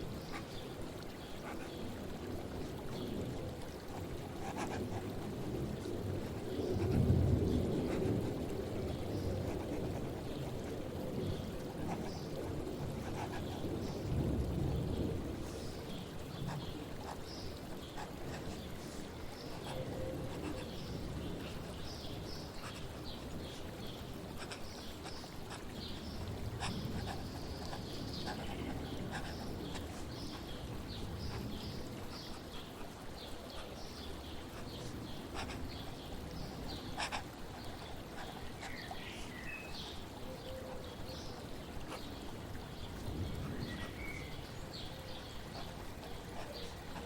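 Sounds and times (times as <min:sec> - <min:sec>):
flowing water: 0:00.0 - 0:47.0.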